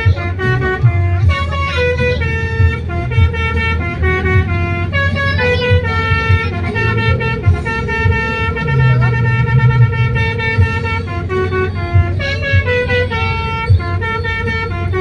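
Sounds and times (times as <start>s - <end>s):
low rumble: 0.0s - 15.0s
multi-tone bus horn melody: 0.0s - 15.0s.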